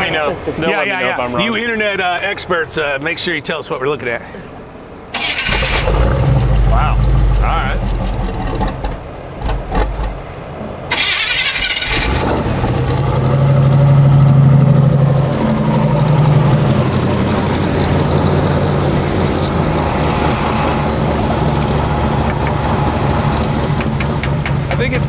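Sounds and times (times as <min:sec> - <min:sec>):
car engine starting and idling: 0:04.1 - 0:25.0.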